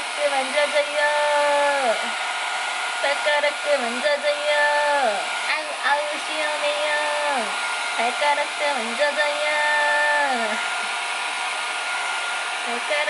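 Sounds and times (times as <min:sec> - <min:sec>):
hair dryer whining: 0:00.0 - 0:13.0.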